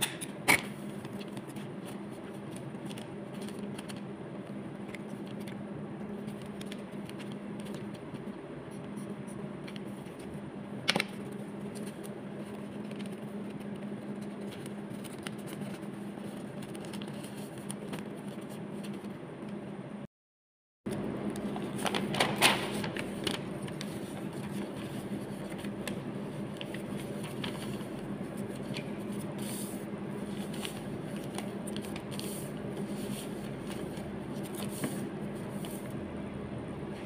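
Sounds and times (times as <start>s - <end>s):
steady low hum: 0.0s - 20.1s, 20.9s - 37.0s
paper handling: 0.5s - 5.6s, 6.2s - 19.2s, 21.4s - 36.0s.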